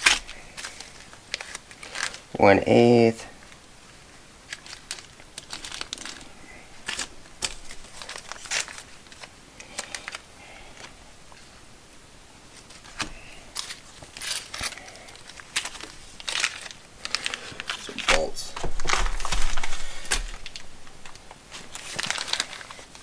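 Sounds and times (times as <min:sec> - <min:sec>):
plastic packaging crinkling: 0:00.0 - 0:02.3, 0:03.4 - 0:11.0, 0:12.6 - 0:23.0.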